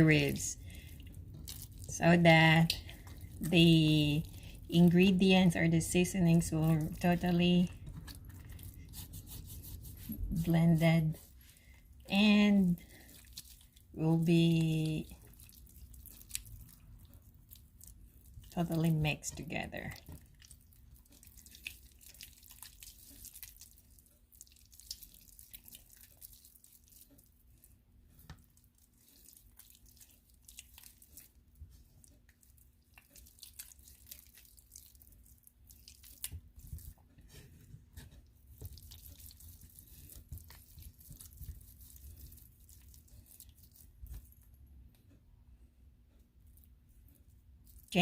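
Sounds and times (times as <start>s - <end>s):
hands squishing raw meat: 0.0s - 44.6s, 46.4s - 48.0s.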